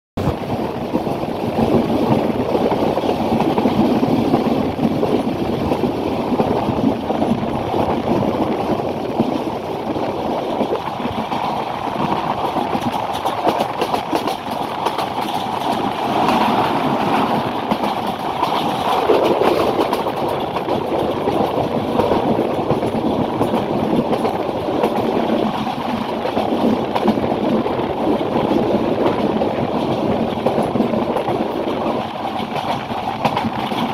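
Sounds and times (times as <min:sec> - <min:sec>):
train wheels rumbling on rails: 0:00.2 - 0:33.9.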